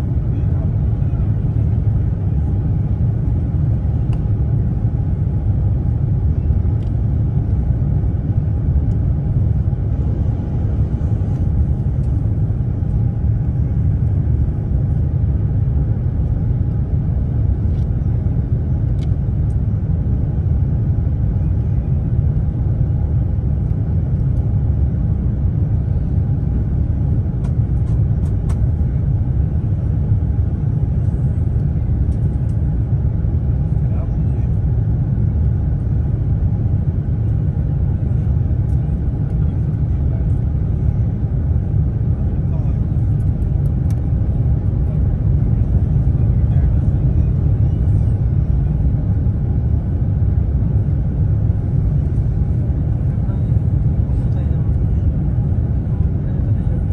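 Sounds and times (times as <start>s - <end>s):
airplane cabin engine rumble: 0.0s - 56.9s
faint steady hum: 0.0s - 56.9s.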